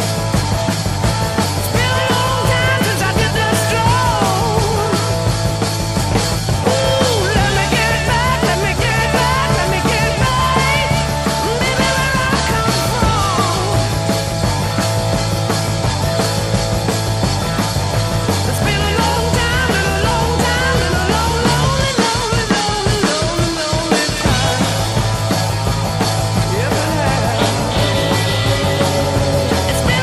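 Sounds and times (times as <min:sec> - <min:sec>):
rock music with drums: 0:00.0 - 0:30.0.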